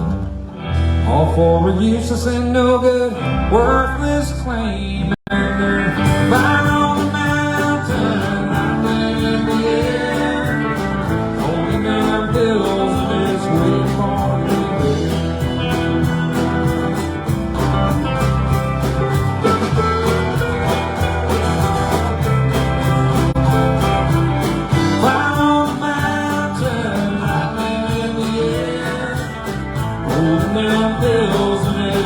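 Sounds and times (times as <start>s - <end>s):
country rock band playing: 0.0s - 32.0s.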